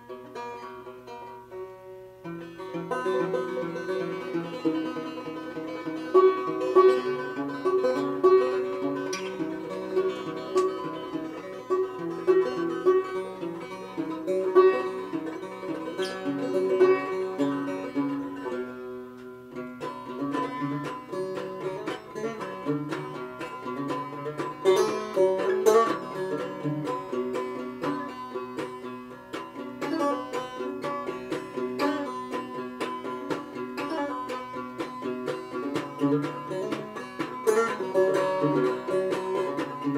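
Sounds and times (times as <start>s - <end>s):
banjo picking: 0.0s - 39.9s.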